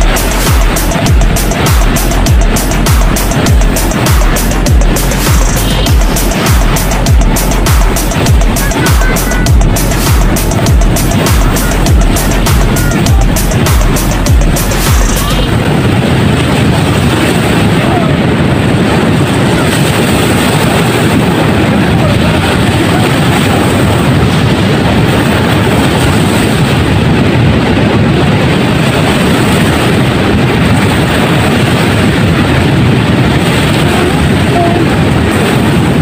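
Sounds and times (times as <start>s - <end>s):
ocean surf breaking: 0.0s - 36.0s
wind buffeting microphone: 0.0s - 36.0s.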